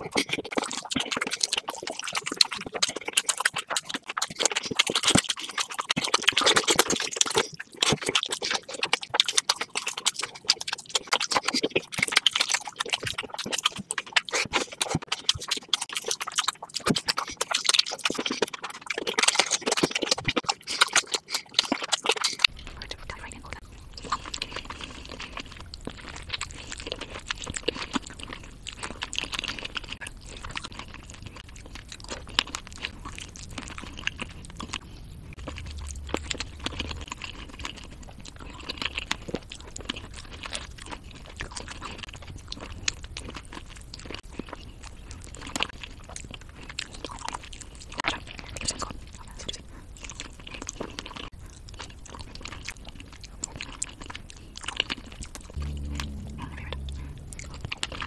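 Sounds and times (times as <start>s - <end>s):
mouth clicks and smacks: 0.0s - 57.7s
person chewing chicken: 0.0s - 58.0s.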